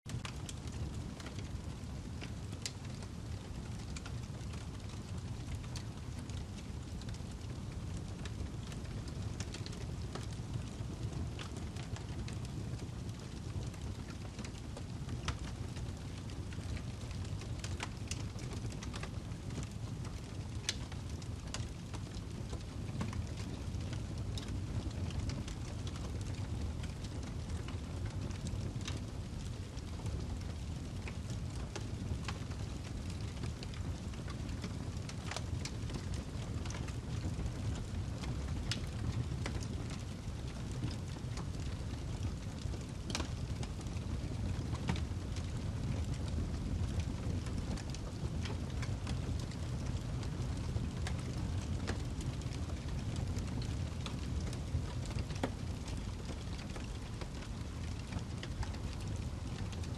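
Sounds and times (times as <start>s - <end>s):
burning log crackling and popping: 0.1s - 59.9s
low rumble of flames: 0.1s - 59.9s.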